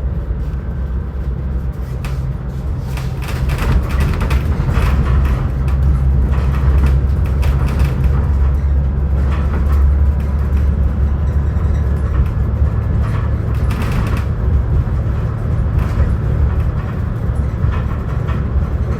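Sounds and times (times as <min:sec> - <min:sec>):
moving vehicle rumble: 0:00.0 - 0:18.9.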